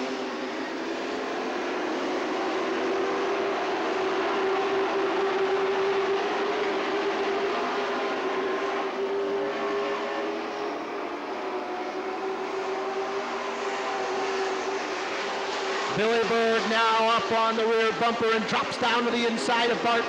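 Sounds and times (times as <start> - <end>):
racing truck engines droning: 0.0 - 20.0.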